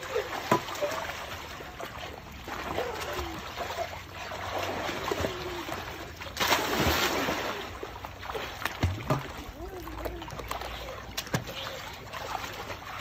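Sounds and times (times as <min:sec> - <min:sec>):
pool water splashing: 0:00.0 - 0:13.0.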